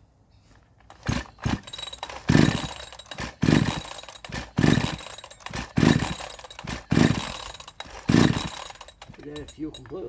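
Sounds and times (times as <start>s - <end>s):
chainsaw recoil starter pulls: 0.8s - 10.0s
engine cranking bursts: 0.8s - 10.0s.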